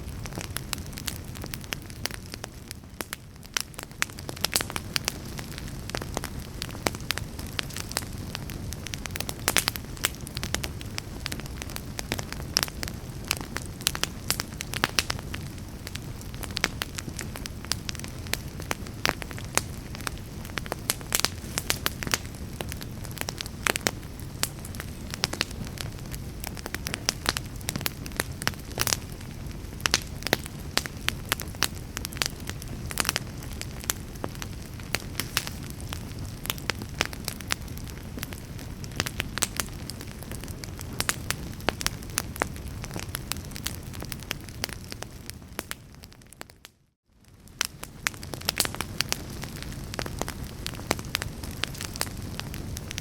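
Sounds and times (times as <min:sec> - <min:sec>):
fire crackling and popping: 0:00.0 - 0:53.0
low rumble of flames: 0:00.0 - 0:53.0.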